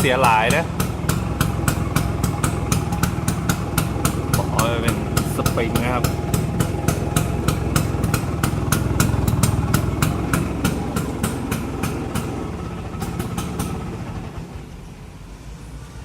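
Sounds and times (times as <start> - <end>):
scooter engine idling: 0.0 - 15.2.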